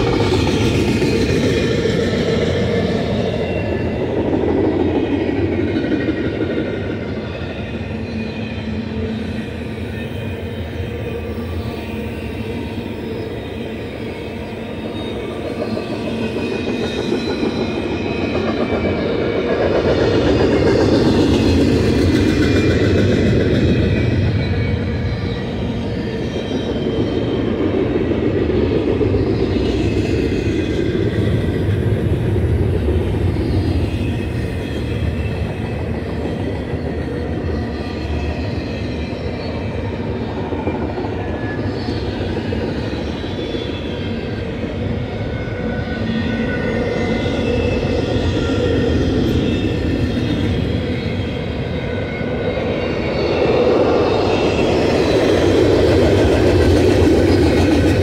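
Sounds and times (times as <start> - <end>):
steel wheels clattering on rails: 0.0 - 45.5, 46.7 - 58.0.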